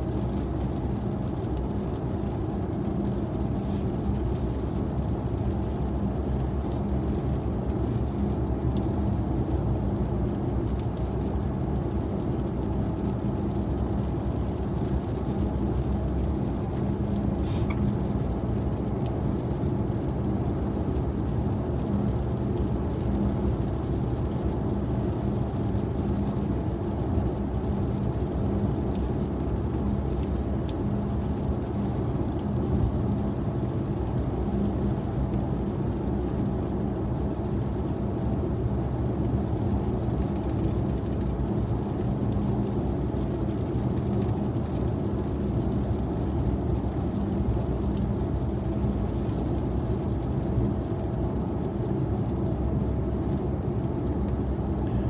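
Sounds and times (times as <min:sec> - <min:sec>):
faint steady hum: 0:00.0 - 0:55.0
car driving on highway: 0:00.1 - 0:55.0.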